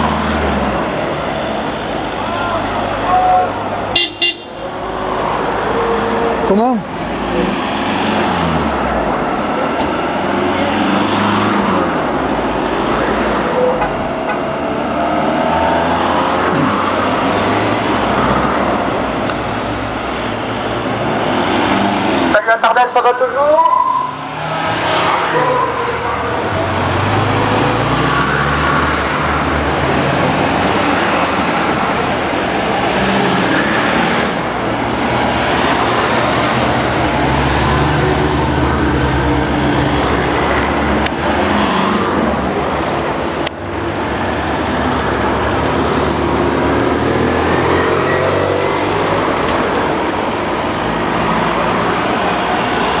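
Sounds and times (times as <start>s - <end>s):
vehicles driving past: 0.0s - 53.0s.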